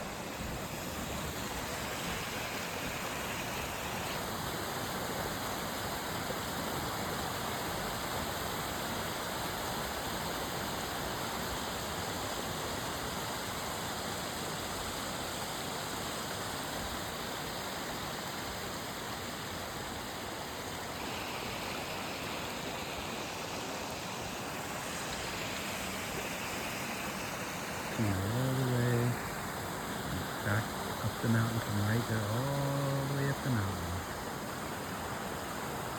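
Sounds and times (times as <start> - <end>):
water rushing over waterfall: 0.0 - 35.9.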